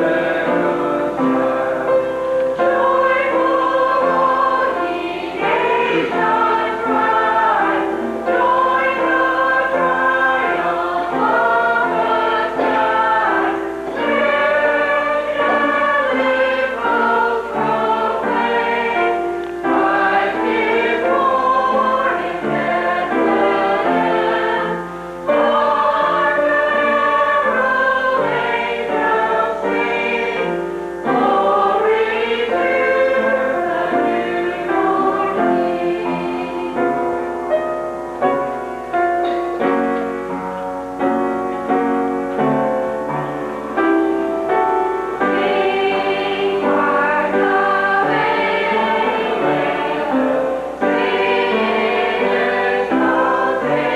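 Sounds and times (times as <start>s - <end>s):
choir singing: 0.0s - 53.9s.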